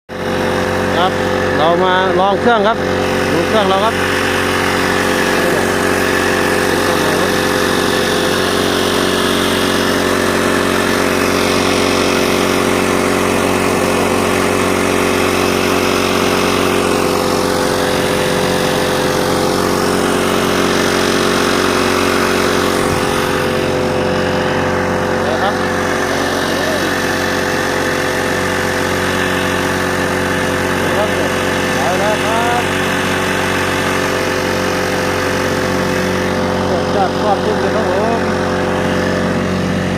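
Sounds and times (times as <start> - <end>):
small boat engine running steadily: 0.0 - 39.9.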